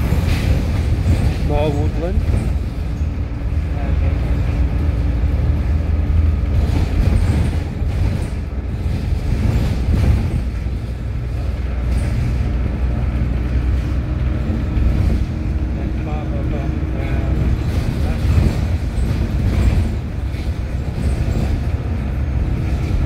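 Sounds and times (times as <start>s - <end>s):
vehicle engine and road rumble: 0.0s - 23.0s.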